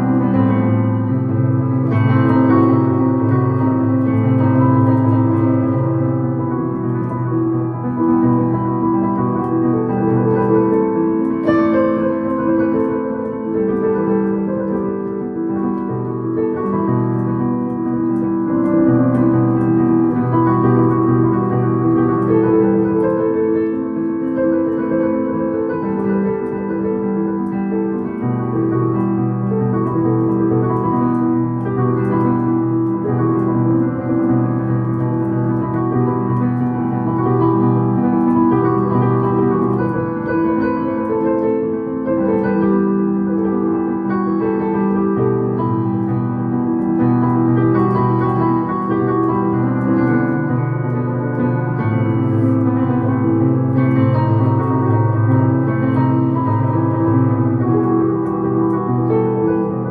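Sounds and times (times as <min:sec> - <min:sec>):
digital piano chords: 0:00.0 - 0:59.9.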